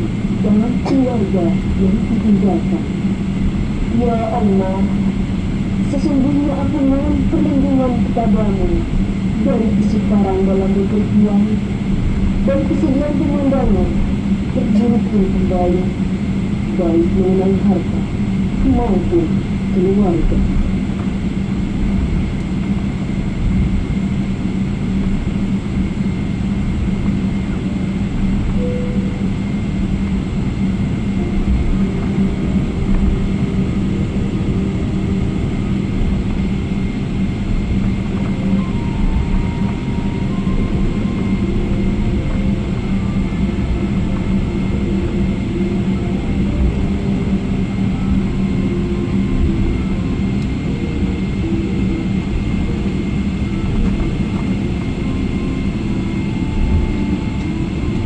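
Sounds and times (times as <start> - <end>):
jet airliner cabin rumble: 0.0 - 58.0.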